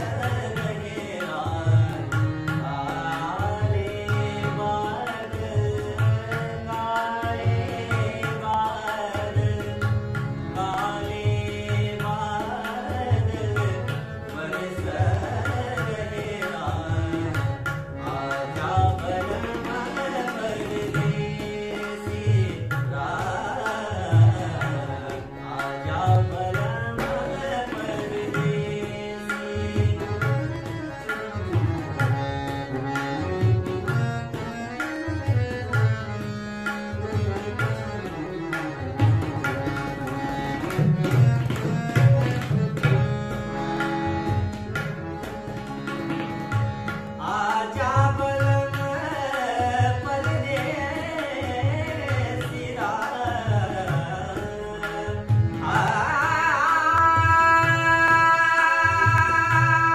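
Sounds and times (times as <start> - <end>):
harmonium: 0.0 - 59.9
young man singing: 0.0 - 59.9.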